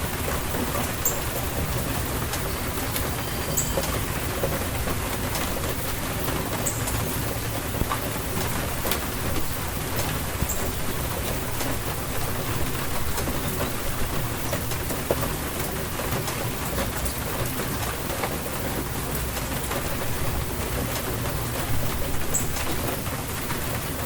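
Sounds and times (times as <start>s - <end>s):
raindrops ticking: 0.0s - 24.0s.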